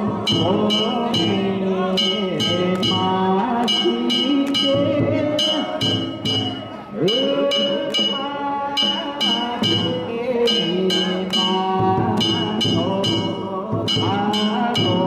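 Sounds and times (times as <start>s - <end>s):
voices: 0.0s - 15.0s
hand gongs struck: 0.3s - 15.0s.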